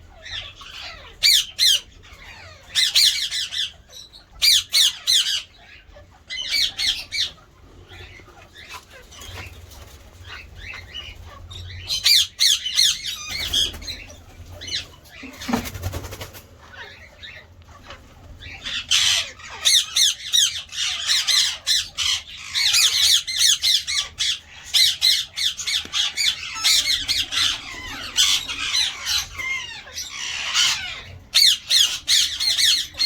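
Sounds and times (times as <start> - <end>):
parakeets squawking: 0.0 - 33.0.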